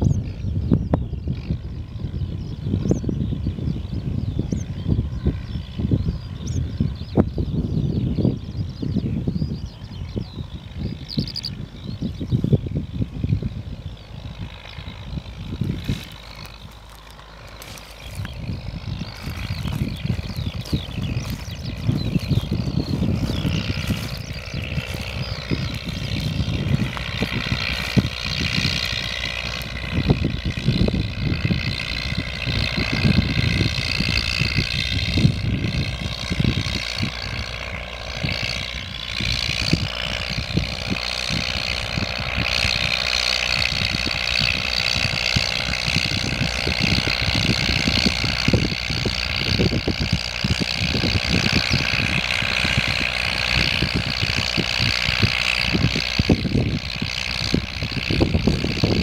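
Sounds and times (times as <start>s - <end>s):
low rumbles and thumps: 0.0s - 59.0s
tractor diesel engine running: 0.0s - 59.0s.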